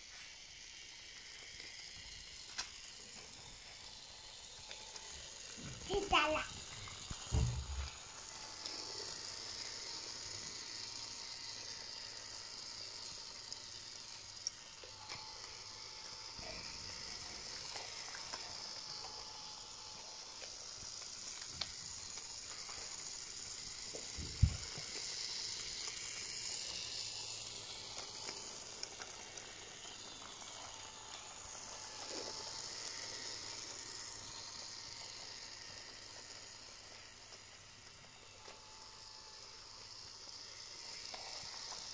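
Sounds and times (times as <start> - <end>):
toy train motor whirring: 0.0 - 41.9.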